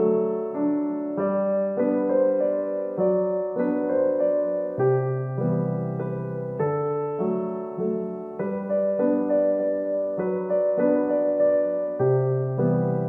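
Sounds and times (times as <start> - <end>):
slow instrumental melody: 0.0 - 13.0.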